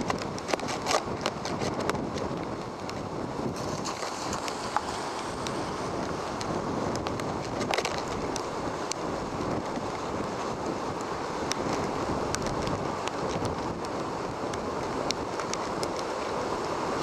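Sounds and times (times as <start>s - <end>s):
heavy surf: 0.0s - 17.0s
storm wind: 0.0s - 17.0s.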